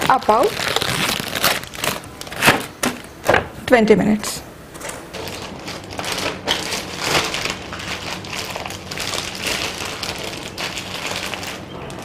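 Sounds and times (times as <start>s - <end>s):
plastic bag crinkling: 0.0s - 3.1s, 4.8s - 12.0s.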